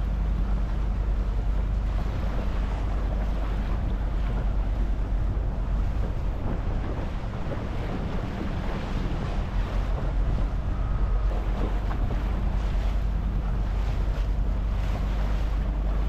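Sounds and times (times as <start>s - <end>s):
boat engine low rumble: 0.0s - 16.0s
water washing around hull: 0.0s - 16.0s
wind buffeting microphone: 0.0s - 16.0s.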